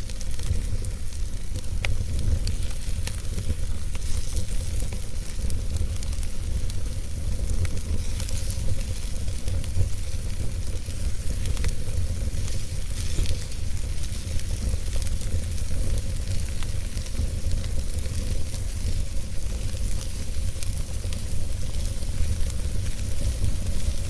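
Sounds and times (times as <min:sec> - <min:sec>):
wood fire crackling and hissing: 0:00.0 - 0:24.0.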